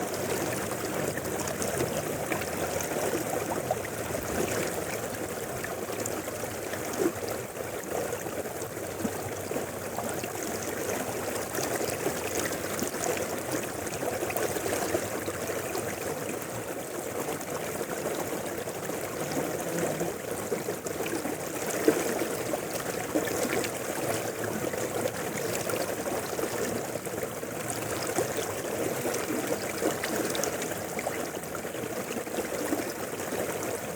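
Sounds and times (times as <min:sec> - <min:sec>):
river flowing over rocks: 0:00.0 - 0:33.9
small water splashes: 0:00.0 - 0:33.9.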